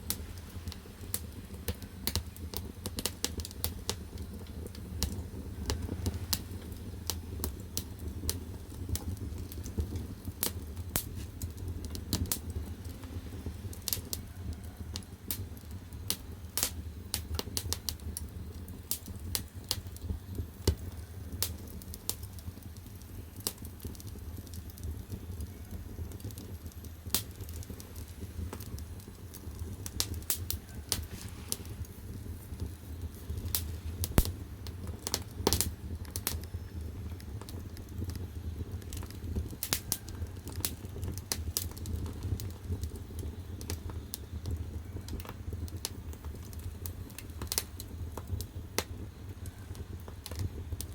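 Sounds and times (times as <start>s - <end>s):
firewood crackling and popping: 0.0s - 50.9s
low rumble of fire: 0.0s - 50.9s.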